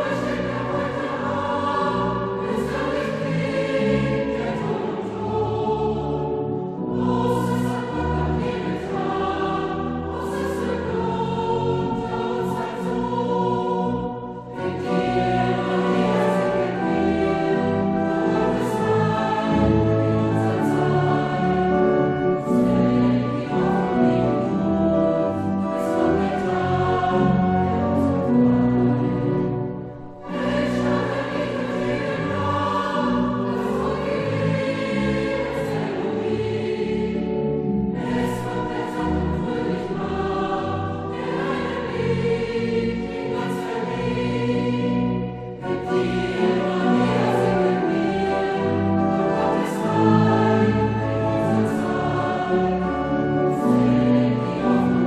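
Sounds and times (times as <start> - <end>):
choir singing a hymn: 0.0 - 55.0
pipe organ: 0.0 - 55.0.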